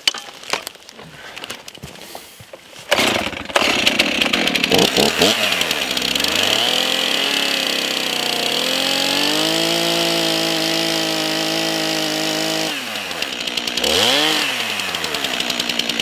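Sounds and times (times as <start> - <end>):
chainsaw cutting log: 2.8 - 16.0.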